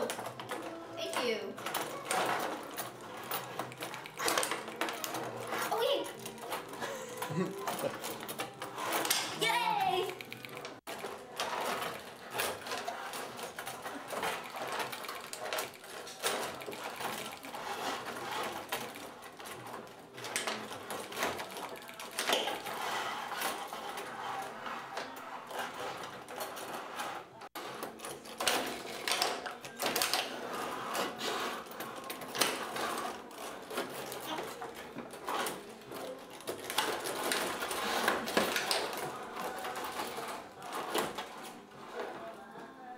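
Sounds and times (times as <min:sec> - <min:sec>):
rods clattering and sliding: 0:00.0 - 0:42.4.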